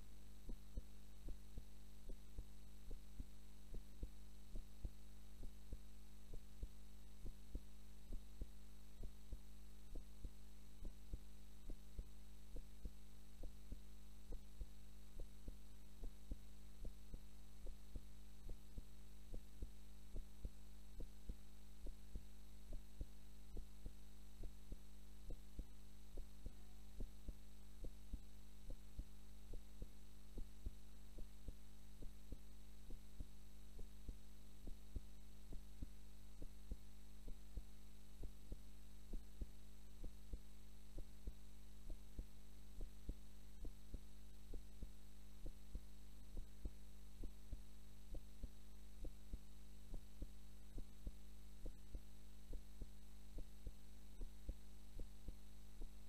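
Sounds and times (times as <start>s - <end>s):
heartbeat thumps: 0.0s - 56.0s
steady electrical hum: 0.0s - 56.0s.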